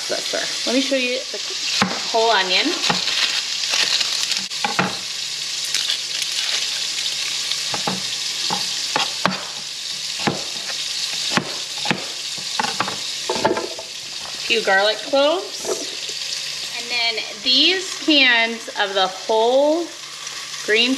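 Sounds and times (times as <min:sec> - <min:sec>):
meat sizzling in a frying pan: 0:00.0 - 0:20.9.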